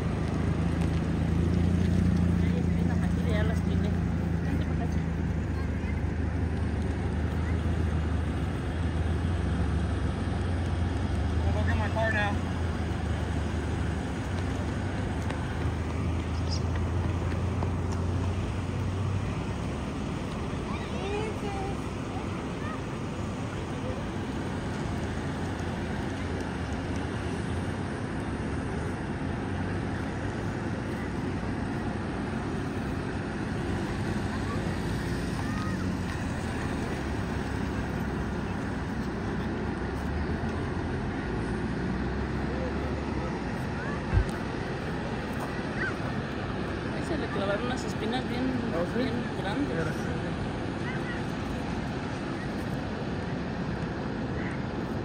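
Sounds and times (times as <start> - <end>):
vehicle rumble with road noise: 0.0 - 55.0.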